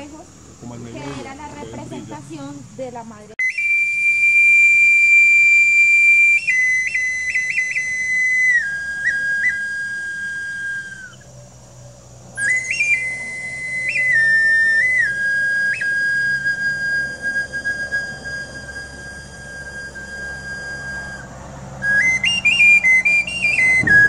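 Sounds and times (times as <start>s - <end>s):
small wind instrument playing: 3.4s - 11.2s, 12.3s - 24.0s.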